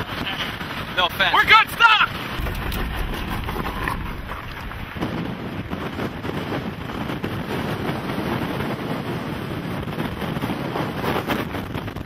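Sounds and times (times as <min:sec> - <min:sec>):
strong wind on microphone: 0:02.1 - 0:12.0.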